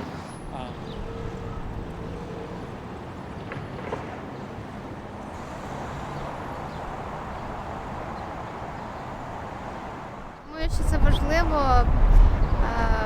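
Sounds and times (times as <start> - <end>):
passing traffic rumble: 0.0 - 13.0.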